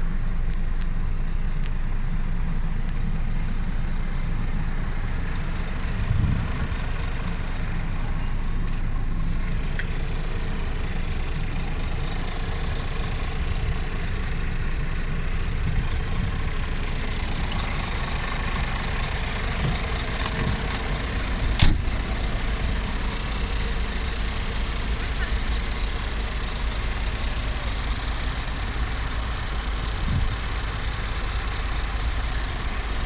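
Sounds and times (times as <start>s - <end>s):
truck diesel engine idling: 0.0s - 33.0s.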